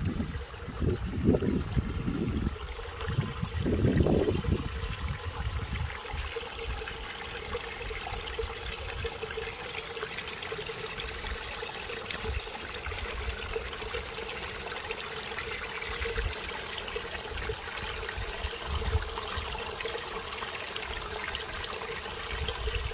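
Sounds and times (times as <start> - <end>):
stream trickling over rocks: 0.0 - 22.9.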